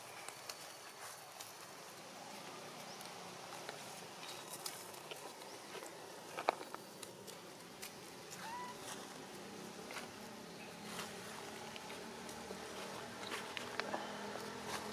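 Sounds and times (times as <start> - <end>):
dry leaves rustling: 0.0 - 14.9.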